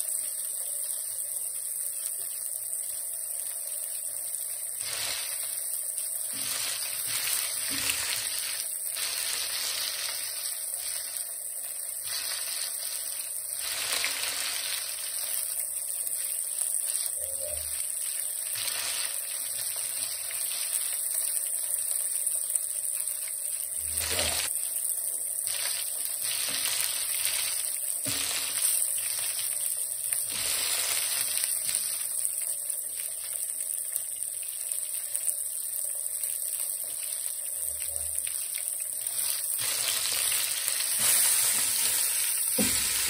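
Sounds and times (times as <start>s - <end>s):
fish sizzling in oil: 0.0s - 43.0s.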